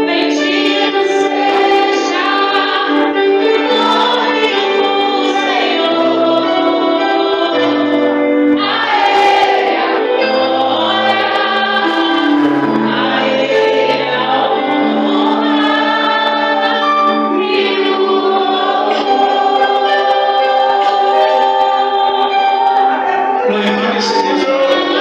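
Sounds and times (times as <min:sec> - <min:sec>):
gospel choir singing: 0:00.0 - 0:25.0.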